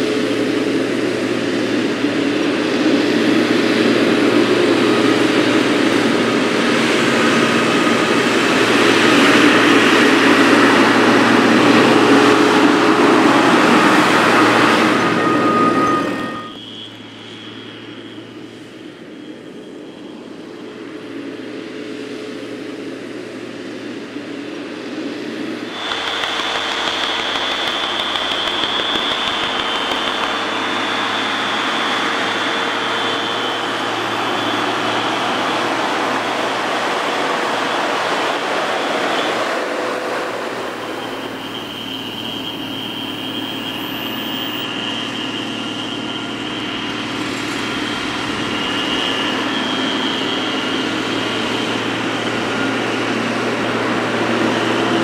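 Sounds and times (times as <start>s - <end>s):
tractor engine under load: 0.0s - 18.7s, 25.7s - 55.0s
high whine: 0.0s - 22.9s, 25.2s - 55.0s.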